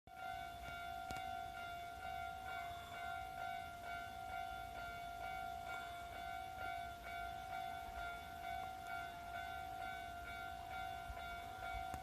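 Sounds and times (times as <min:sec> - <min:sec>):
level crossing alarm bell: 0:00.1 - 0:12.0.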